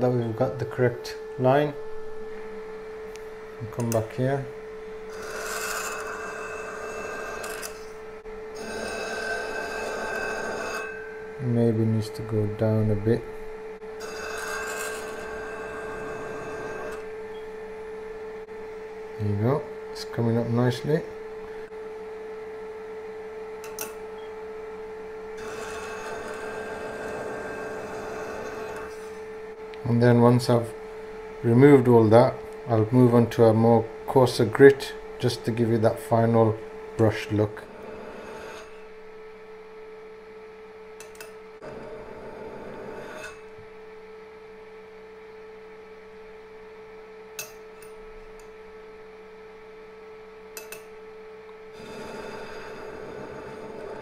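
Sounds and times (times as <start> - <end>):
lapping machine humming: 0.0 - 54.0.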